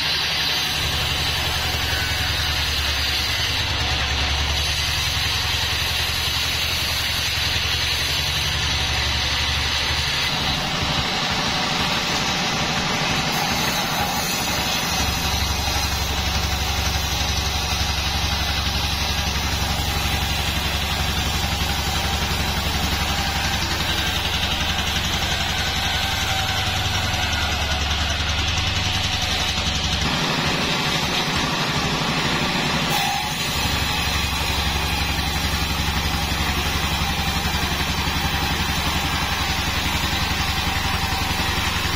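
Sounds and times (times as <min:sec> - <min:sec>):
saw blade hiss: 0:00.0 - 0:41.9
sawmill engine drone: 0:00.0 - 0:41.9.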